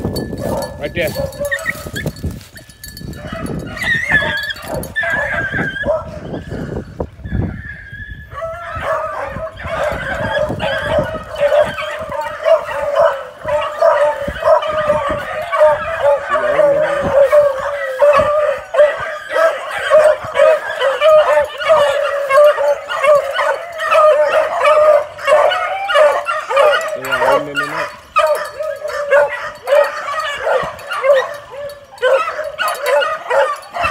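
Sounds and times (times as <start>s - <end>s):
puppies baying and yipping: 0.0s - 33.9s.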